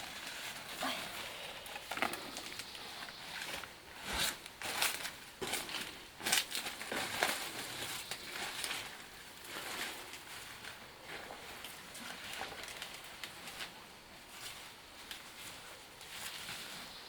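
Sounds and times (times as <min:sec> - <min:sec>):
dry plant material crunching: 0:00.0 - 0:17.0.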